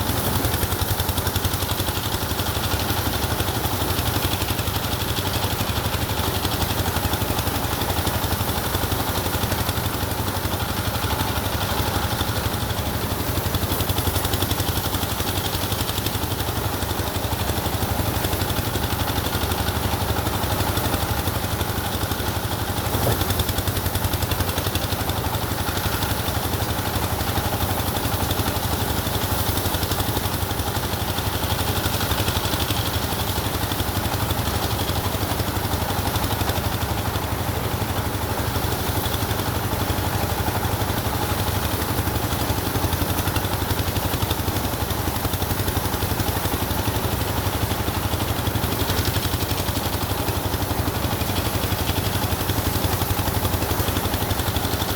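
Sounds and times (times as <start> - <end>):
engine running with low hum: 0.0 - 54.9.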